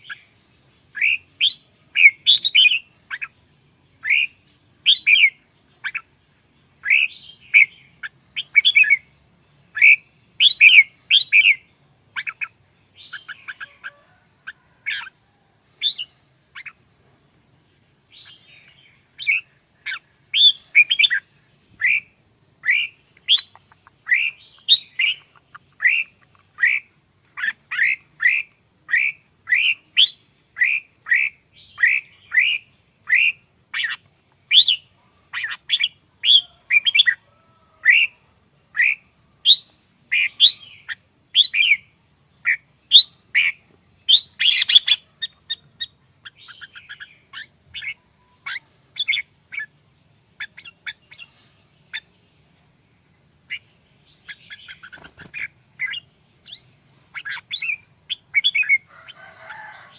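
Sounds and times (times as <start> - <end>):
bird singing whistled notes: 0.0 - 6.2, 6.8 - 15.1, 15.8 - 16.8, 18.1 - 37.2, 37.9 - 52.2, 53.2 - 58.9.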